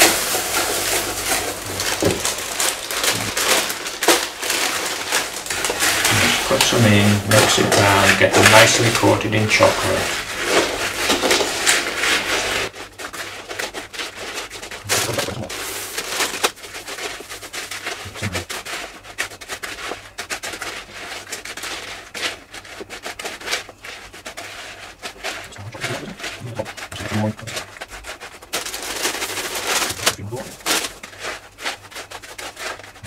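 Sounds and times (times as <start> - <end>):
spoon stirring cereal in bowl: 0.0 - 33.0.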